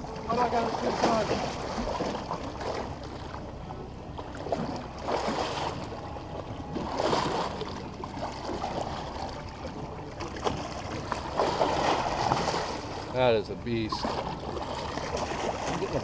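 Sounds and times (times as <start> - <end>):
water splashing against boat: 0.0 - 16.0.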